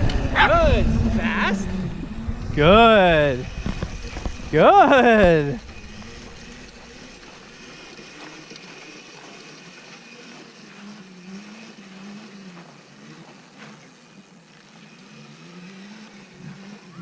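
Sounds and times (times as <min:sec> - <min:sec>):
mini bike motor revving: 0:00.0 - 0:17.0.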